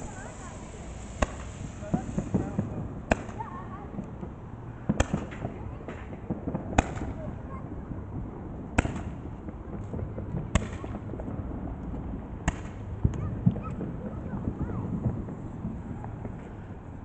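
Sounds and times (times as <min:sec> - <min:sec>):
fireworks bangs: 0:00.0 - 0:17.0
small firework pops: 0:00.0 - 0:17.0.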